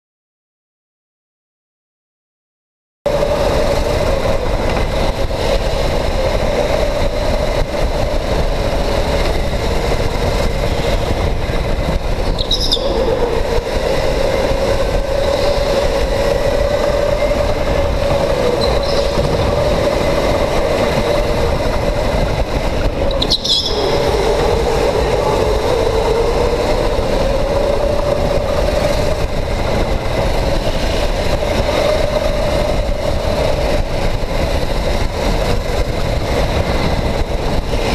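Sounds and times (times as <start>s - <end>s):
wind on camera: 3.1s - 37.9s.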